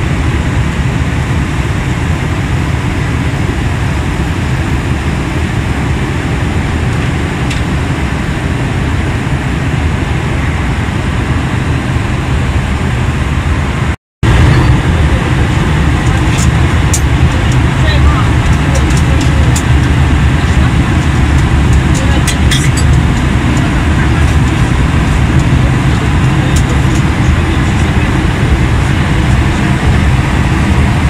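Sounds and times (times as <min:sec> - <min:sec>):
airplane cabin noise: 0:00.0 - 0:31.0.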